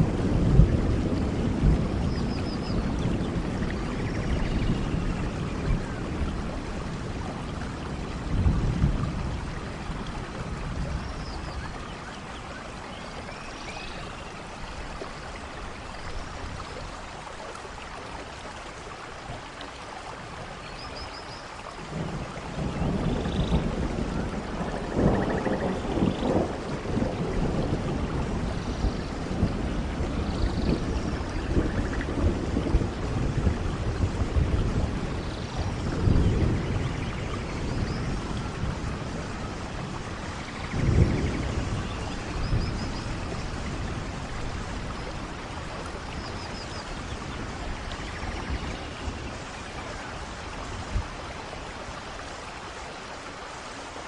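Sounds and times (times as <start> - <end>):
low rumbles of thunder: 0.0 - 17.0, 21.7 - 52.2
heavy rain: 0.0 - 54.0.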